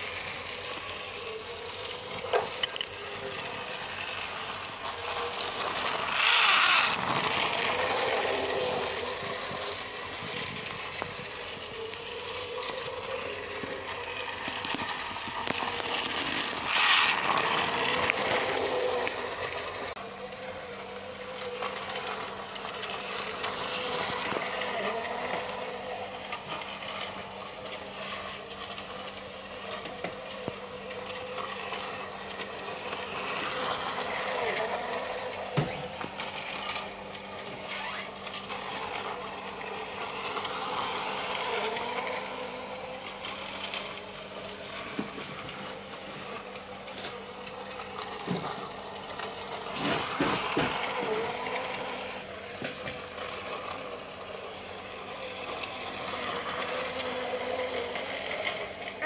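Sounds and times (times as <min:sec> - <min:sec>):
toy train motor whirring: 0:00.0 - 0:59.0
wheels rattling on plastic track: 0:00.0 - 0:59.0.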